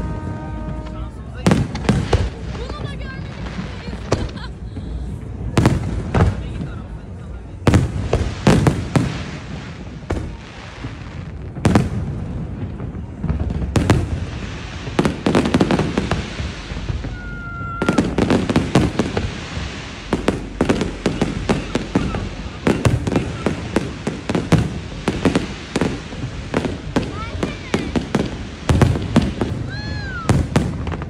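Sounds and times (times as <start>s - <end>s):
firework whistling: 0.0s - 6.6s, 7.7s - 31.0s
fireworks bangs and crackles: 0.0s - 31.0s.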